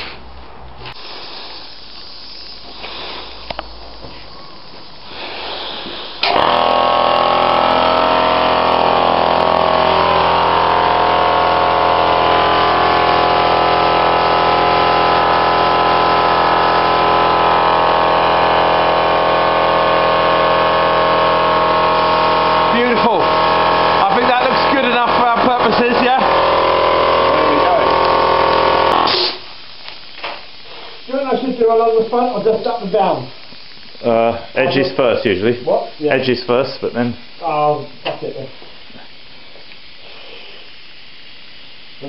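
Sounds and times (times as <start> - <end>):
air compressor running: 0.8 - 42.0.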